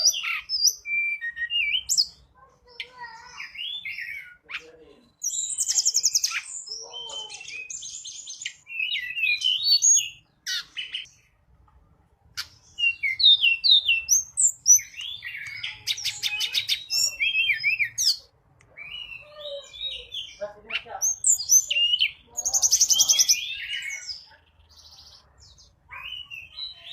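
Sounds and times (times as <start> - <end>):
bird whistling and trilling: 0.0 - 2.2, 3.2 - 11.1, 12.4 - 25.2, 25.9 - 26.9.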